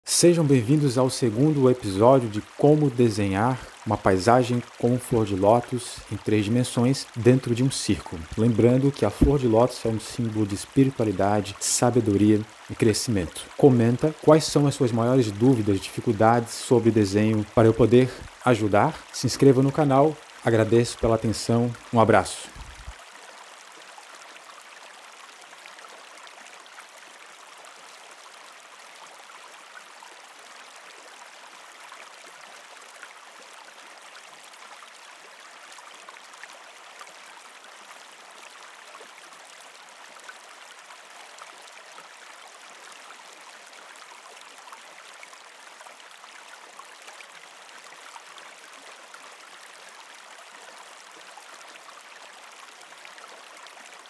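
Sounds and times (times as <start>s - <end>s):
stream water rushing: 0.1s - 54.0s.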